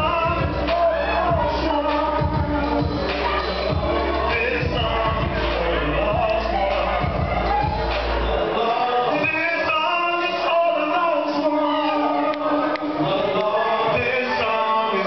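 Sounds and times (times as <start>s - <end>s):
backing music with deep bass: 0.0s - 15.0s
man singing into a microphone: 0.0s - 15.0s.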